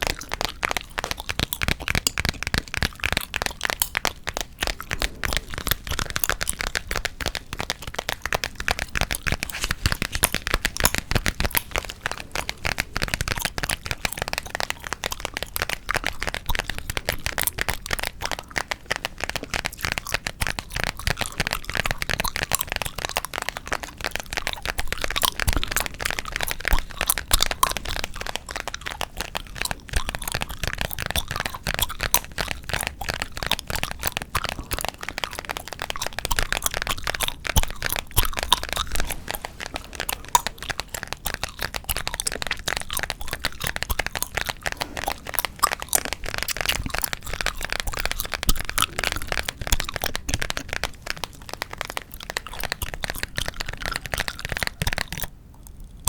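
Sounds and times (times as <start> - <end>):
gum chewing cracks: 0.0 - 56.0.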